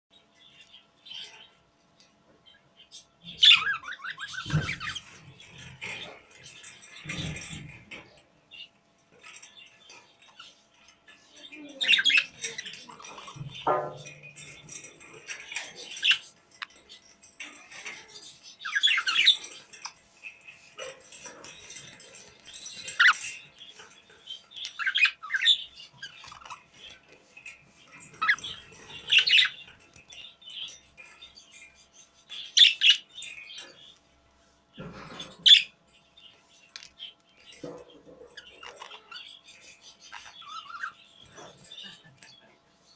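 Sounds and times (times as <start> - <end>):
budgerigars chirping and chattering: 0.1 - 42.9.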